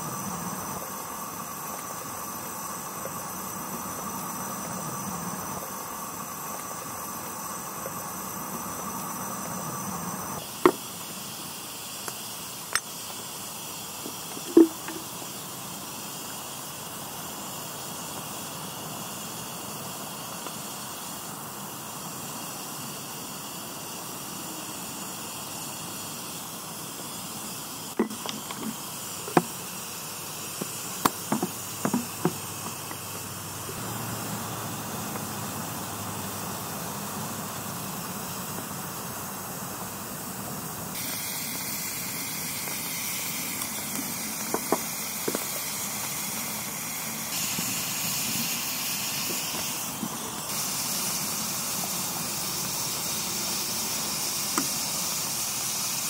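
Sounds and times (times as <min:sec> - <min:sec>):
steam hissing: 0:00.0 - 0:56.0.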